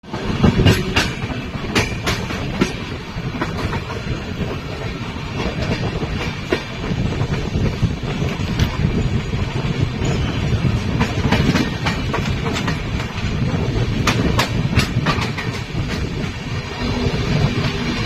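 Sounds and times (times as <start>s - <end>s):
train coaches rumbling: 0.0s - 18.0s.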